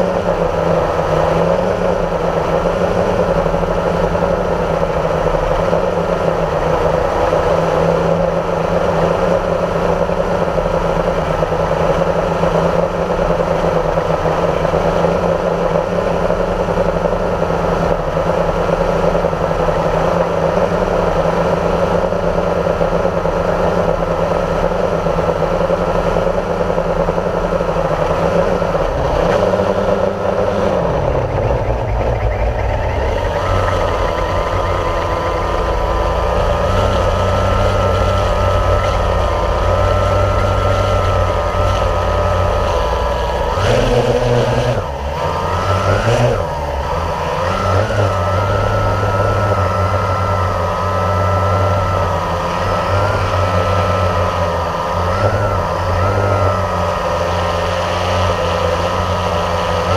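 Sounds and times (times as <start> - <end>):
model aircraft motor humming: 0.0 - 59.9.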